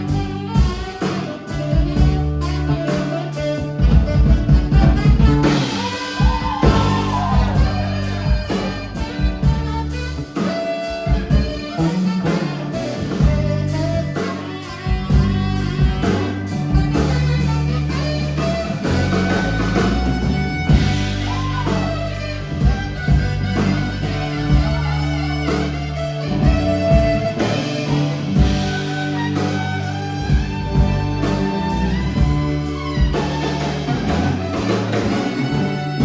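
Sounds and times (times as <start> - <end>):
bass line: 0.0 - 36.0
drums: 0.0 - 36.0
electric guitar: 0.0 - 36.0.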